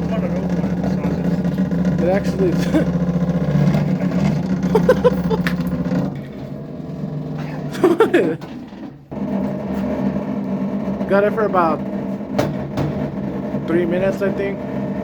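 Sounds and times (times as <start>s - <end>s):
electric appliance hum: 0.0s - 15.0s.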